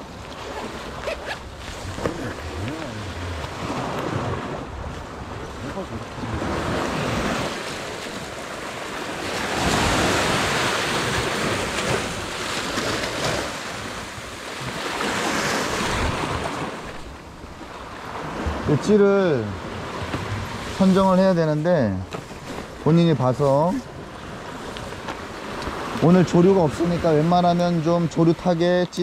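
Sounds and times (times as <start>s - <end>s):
sea surf against rocks: 0.0s - 29.0s.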